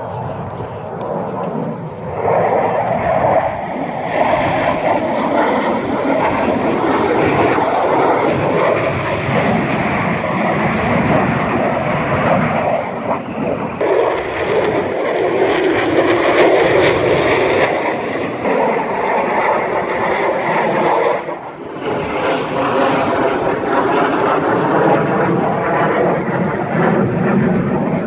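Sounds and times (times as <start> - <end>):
jet fighter engine roar: 0.0 - 28.0.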